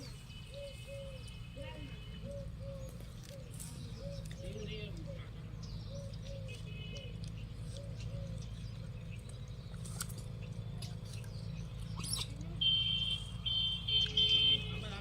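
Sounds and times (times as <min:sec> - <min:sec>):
low outdoor hum: 0:00.0 - 0:15.0
high chirping animal calls: 0:02.2 - 0:14.7.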